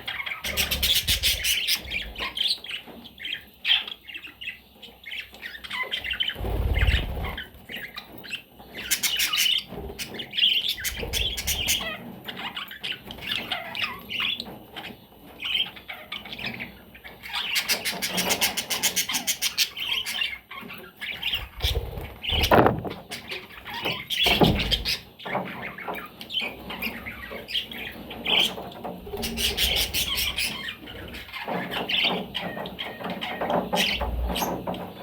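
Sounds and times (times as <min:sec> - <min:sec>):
budgerigars chattering and squawking: 0:00.0 - 0:35.0.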